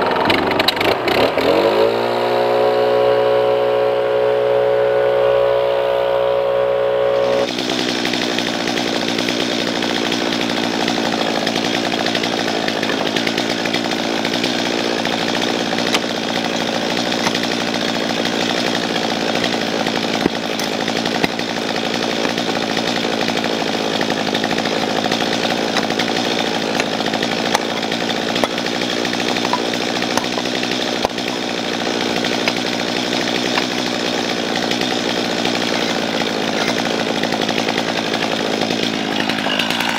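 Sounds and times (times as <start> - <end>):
power tool engine running: 0.0 - 39.9.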